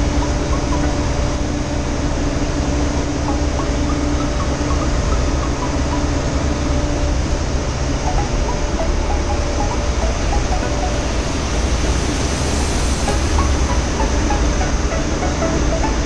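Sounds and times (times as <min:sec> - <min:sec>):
engine room machinery humming: 0:00.0 - 0:16.0.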